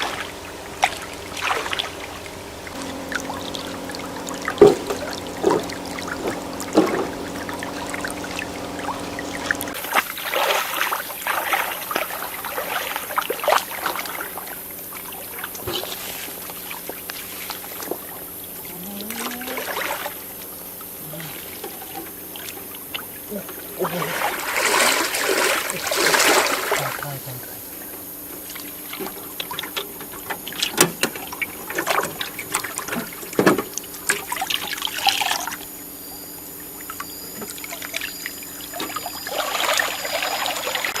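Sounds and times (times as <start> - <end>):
water splashing and trickling: 0.0 - 35.9, 36.5 - 41.0.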